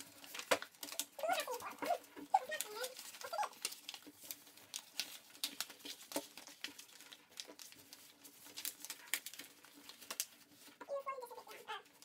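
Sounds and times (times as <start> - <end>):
paper being folded and creased: 0.0 - 12.0.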